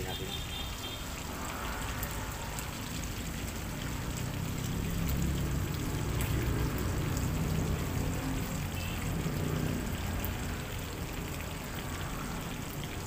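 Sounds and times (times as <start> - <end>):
pork sizzling in hot oil: 0.0 - 13.0.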